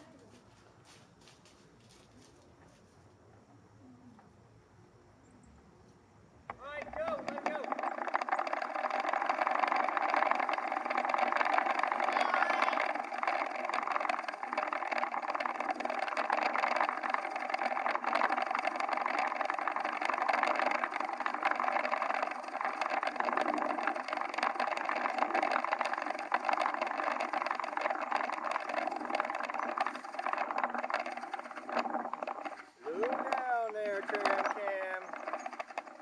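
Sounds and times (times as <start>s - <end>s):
pulleys whirring with rattle: 6.5s - 36.0s.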